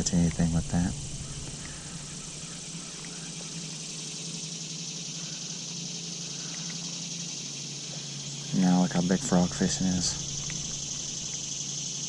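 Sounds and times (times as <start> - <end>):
insects chirping: 0.0 - 12.0
low steady hum: 0.0 - 12.0.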